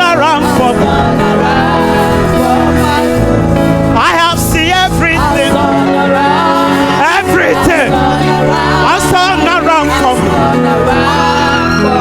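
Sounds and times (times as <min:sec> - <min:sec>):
band playing held chords: 0:00.0 - 0:12.0.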